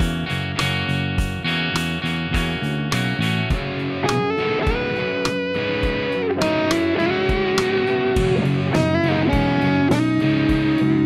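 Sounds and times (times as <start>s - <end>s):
guitar-led song with steady beat: 0.0s - 11.0s.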